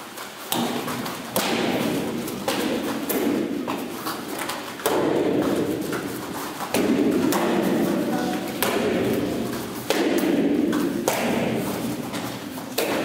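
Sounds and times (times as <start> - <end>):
bare feet stamping on mats: 0.0 - 13.0.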